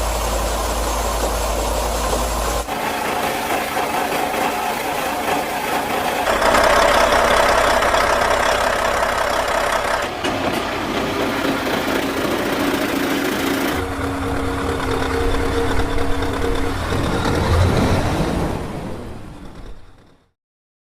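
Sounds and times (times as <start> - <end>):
truck diesel engine running: 0.0 - 20.2.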